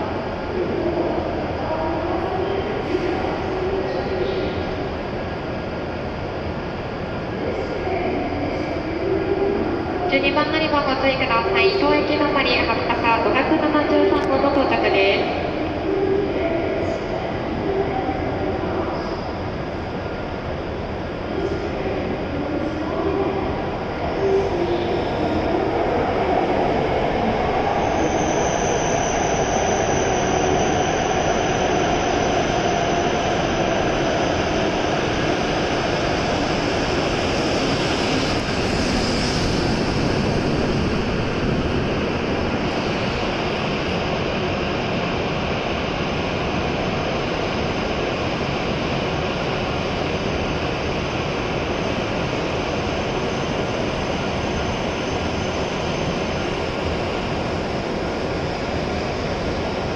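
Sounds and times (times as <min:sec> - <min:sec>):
train rumble of wheels and air: 0:00.0 - 0:59.9.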